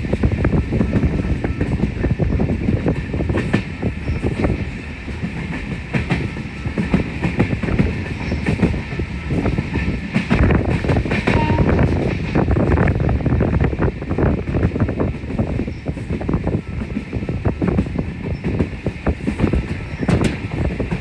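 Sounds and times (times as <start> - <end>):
train rumbling: 0.0 - 21.0
train wheels clattering: 0.0 - 21.0.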